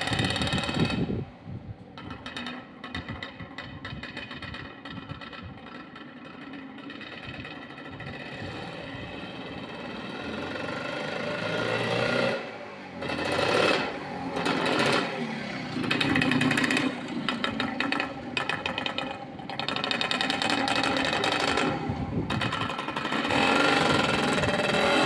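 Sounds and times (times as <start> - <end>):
two-stroke engine revving: 0.0 - 1.4, 2.0 - 25.0.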